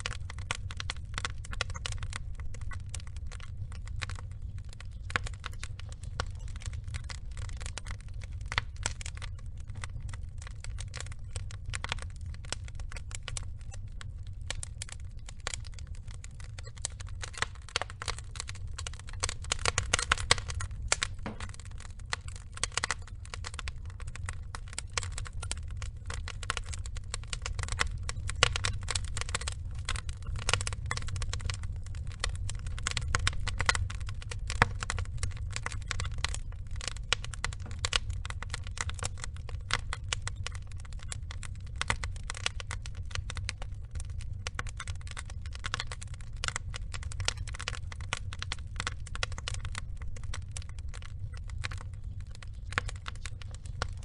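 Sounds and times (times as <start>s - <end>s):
burning logs crackling: 0.0s - 54.0s
low fire rumble: 0.0s - 54.0s.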